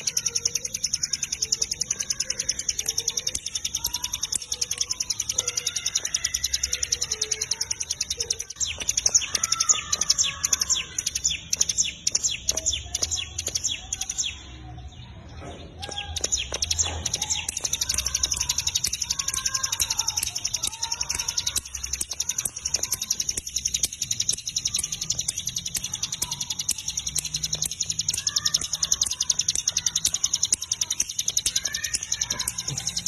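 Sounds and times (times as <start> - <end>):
bird singing fast high chips: 0.0 - 33.0
soft low chirps: 0.0 - 33.0.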